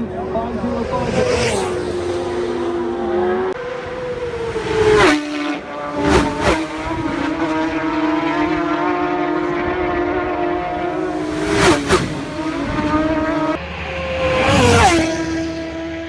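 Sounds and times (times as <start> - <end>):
racing motorcycles passing: 0.0 - 16.0
steady motorcycle engine note: 0.0 - 16.0.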